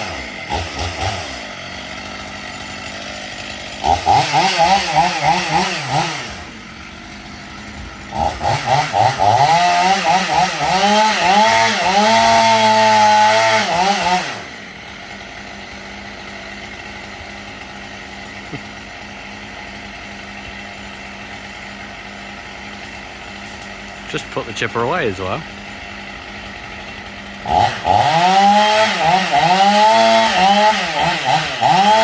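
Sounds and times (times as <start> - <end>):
chainsaw revving: 0.0 - 32.0
steady engine hum: 0.0 - 32.0.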